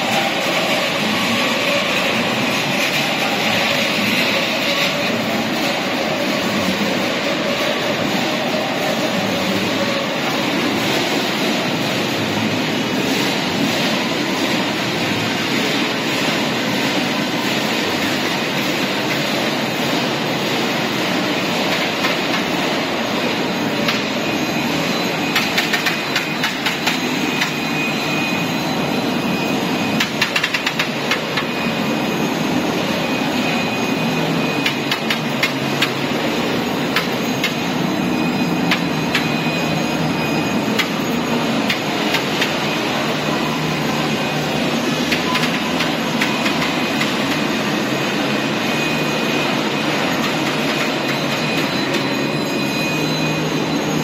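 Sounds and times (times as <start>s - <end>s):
tube mill machinery clatter: 0.0s - 54.0s.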